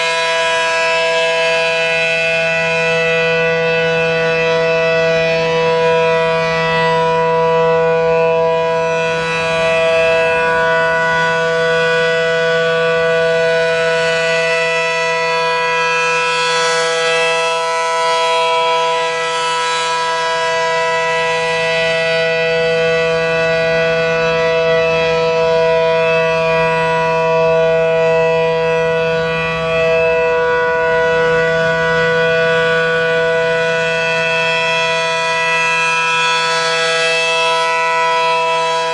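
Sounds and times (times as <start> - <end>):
warning siren steady wail: 0.0 - 38.9.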